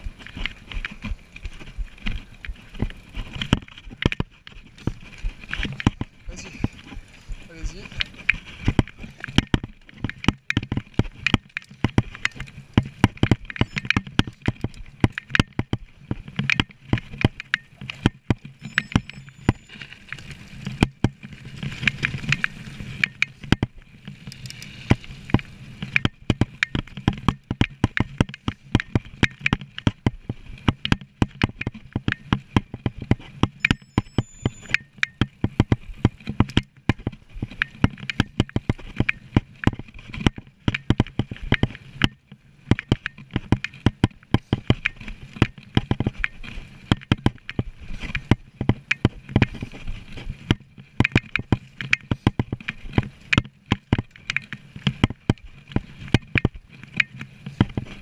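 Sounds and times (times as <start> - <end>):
bike rattling over bumps: 0.0 - 58.0
tyres rolling on dirt: 0.0 - 58.0.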